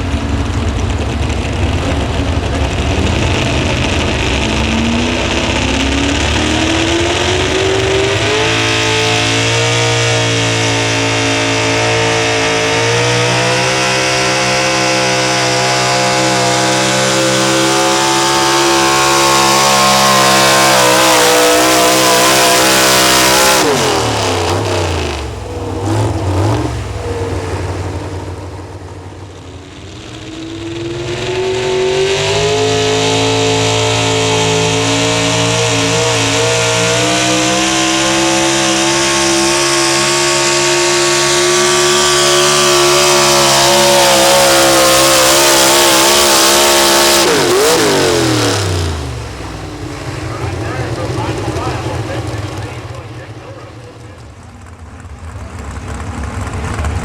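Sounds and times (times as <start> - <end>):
truck engine at full throttle: 0.0 - 57.0.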